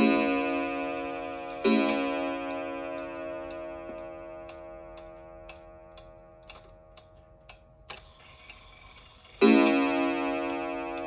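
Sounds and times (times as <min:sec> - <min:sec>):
clock gong ringing: 0:00.0 - 0:06.8, 0:08.0 - 0:11.0
clock pendulum ticking: 0:00.0 - 0:11.0.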